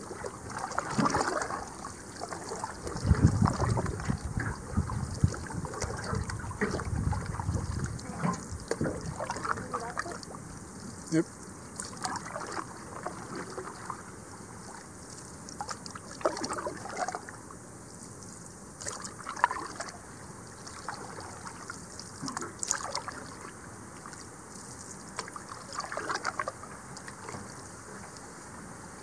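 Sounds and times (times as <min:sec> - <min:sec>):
paddle splashing in water: 0:00.0 - 0:17.6, 0:18.2 - 0:28.9.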